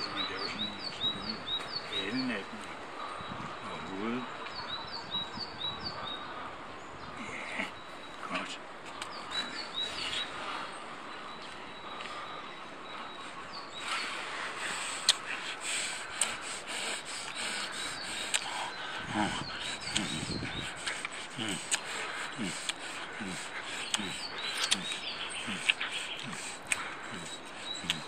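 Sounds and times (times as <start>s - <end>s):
small bird chirping: 0.0s - 6.2s, 7.0s - 28.0s.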